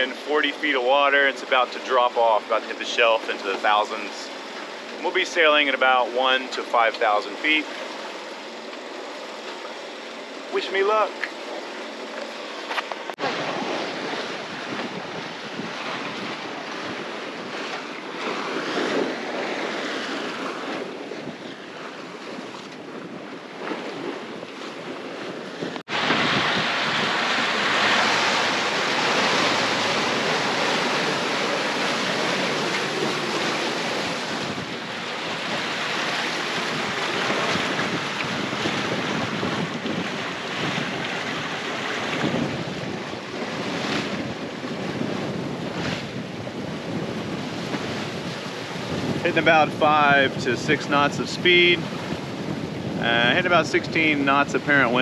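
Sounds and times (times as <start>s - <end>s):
waves splashing along hull: 0.0s - 55.0s
wind buffeting microphone: 9.6s - 55.0s.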